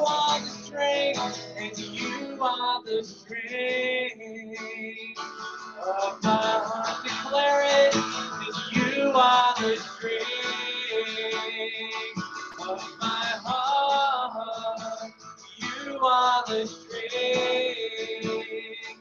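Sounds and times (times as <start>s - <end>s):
man singing: 0.0s - 5.2s, 5.8s - 19.0s
acoustic guitar strumming: 0.0s - 19.0s.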